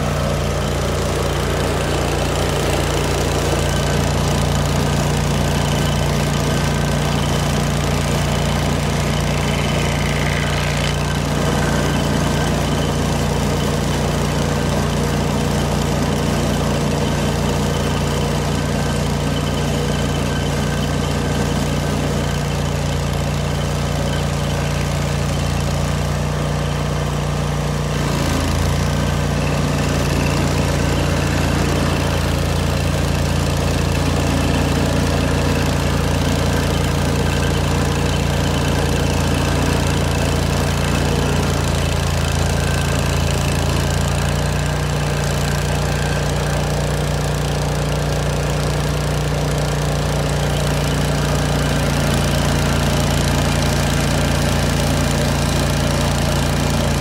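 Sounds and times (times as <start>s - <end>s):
stump grinder engine running: 0.0s - 57.0s.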